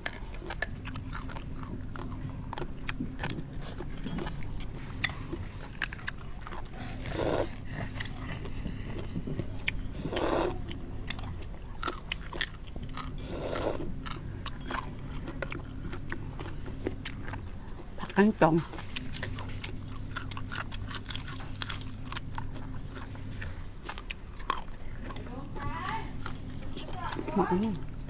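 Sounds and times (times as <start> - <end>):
chewing crunchy food: 0.0 - 28.0
low hum: 0.0 - 28.0.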